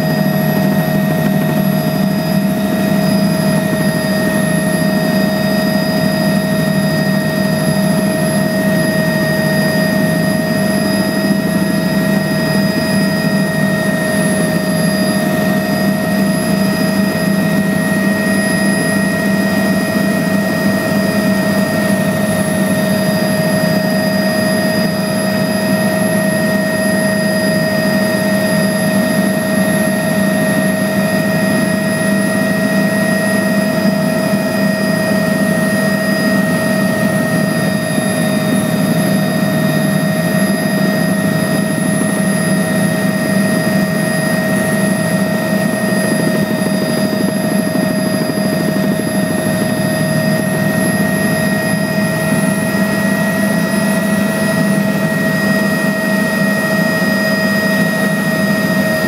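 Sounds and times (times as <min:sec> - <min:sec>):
high steady whines: 0:00.0 - 0:59.0
small aircraft engine drone: 0:00.0 - 0:59.0.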